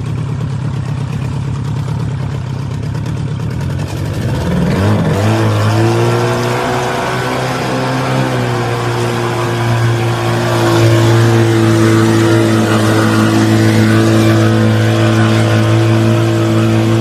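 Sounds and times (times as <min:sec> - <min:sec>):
boat engine revving: 0:01.7 - 0:17.0.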